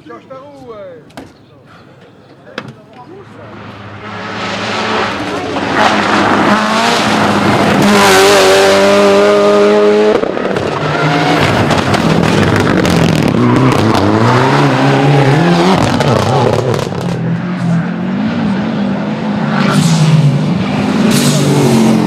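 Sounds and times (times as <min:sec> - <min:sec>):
rally car engine revving: 0:03.2 - 0:22.0.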